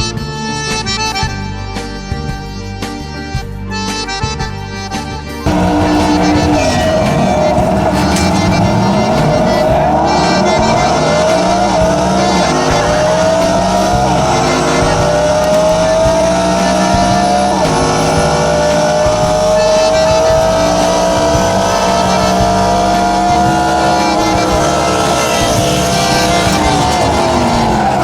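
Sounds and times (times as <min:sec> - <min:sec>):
car engine accelerating hard: 0:05.4 - 0:28.0.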